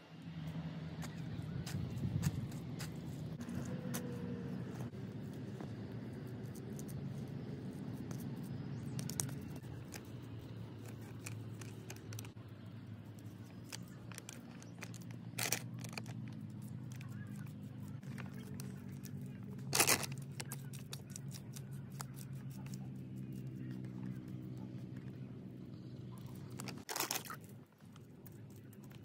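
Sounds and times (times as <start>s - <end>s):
soil scraping and crunching: 1.0s - 29.0s.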